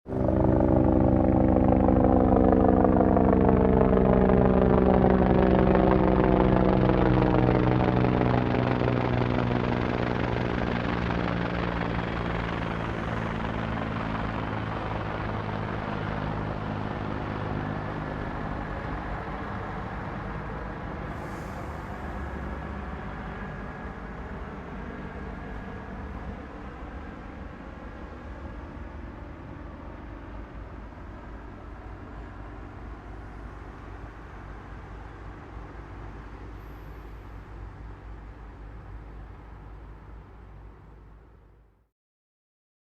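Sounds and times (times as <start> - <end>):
helicopter rotor and engine: 0.1 - 41.3.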